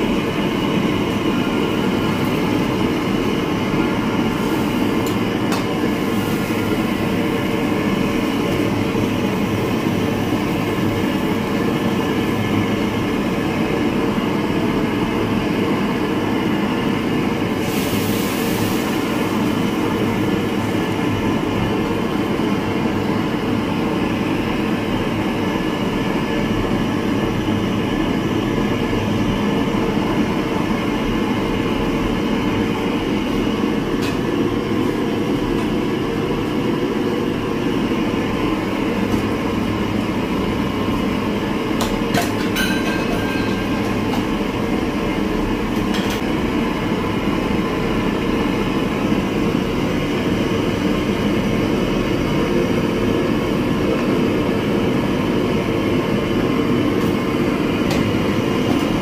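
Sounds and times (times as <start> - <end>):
gas burner rushing: 0.0 - 59.0.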